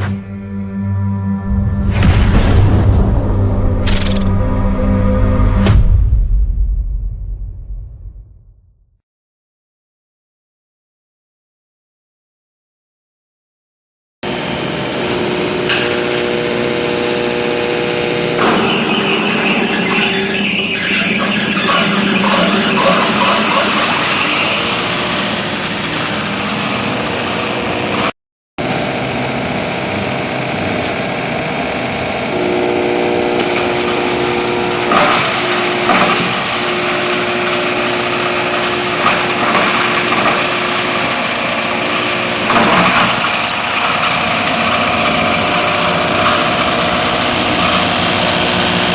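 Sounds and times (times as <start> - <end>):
motor humming: 0.0 - 5.4, 14.3 - 48.9.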